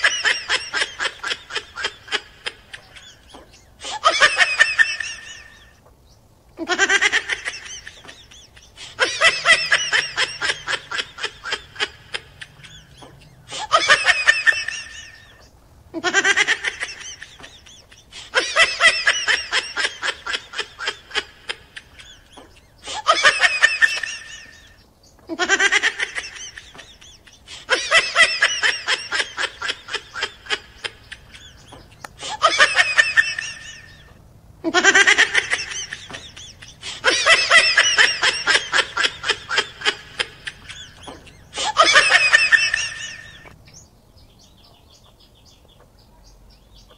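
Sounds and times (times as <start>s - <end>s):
bursts of fast pulsing laughter: 0.0s - 5.8s, 6.6s - 43.6s.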